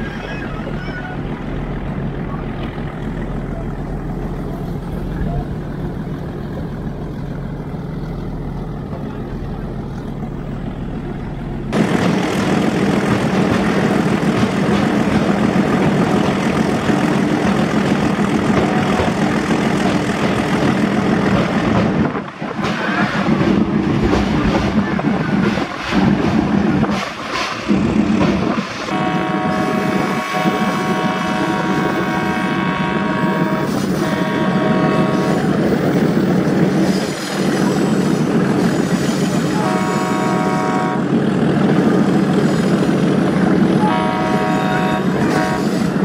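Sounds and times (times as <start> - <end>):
train engine hum: 0.0 - 46.0.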